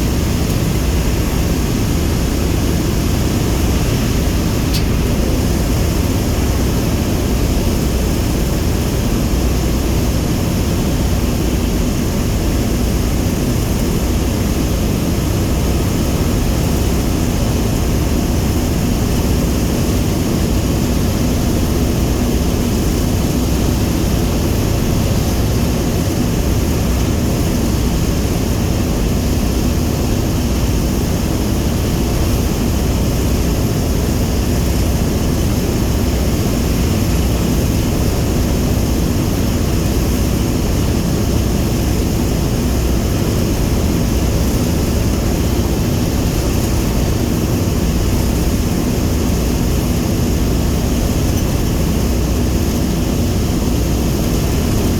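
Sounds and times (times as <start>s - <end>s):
radial aircraft engines droning: 0.0s - 54.9s.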